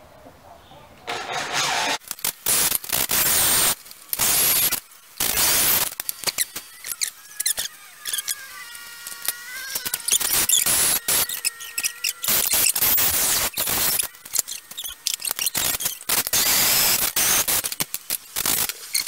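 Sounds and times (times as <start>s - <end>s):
power drill whining: 2.6s - 19.0s.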